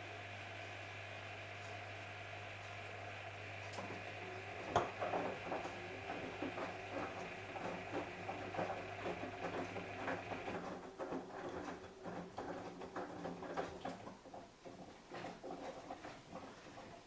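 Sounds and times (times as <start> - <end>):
washing machine hum: 0.0 - 17.0
laundry patter in turning drum: 1.7 - 17.0.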